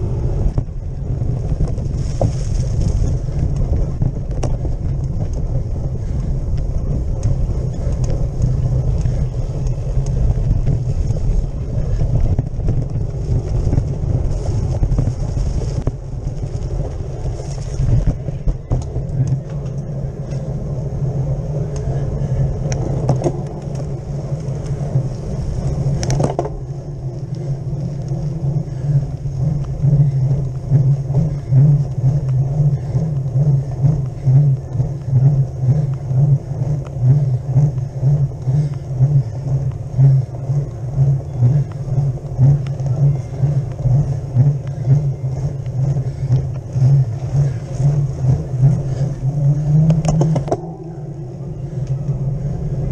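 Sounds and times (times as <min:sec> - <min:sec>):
bike clicks and rattles: 0:00.0 - 0:52.9
rumble of wind and road: 0:00.0 - 0:52.9.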